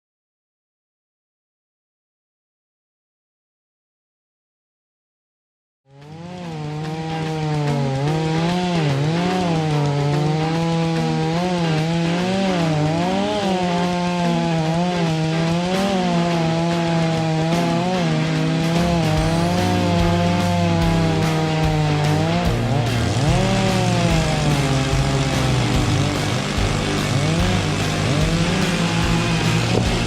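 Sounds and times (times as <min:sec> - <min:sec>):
chainsaw cutting wood: 0:05.9 - 0:30.0.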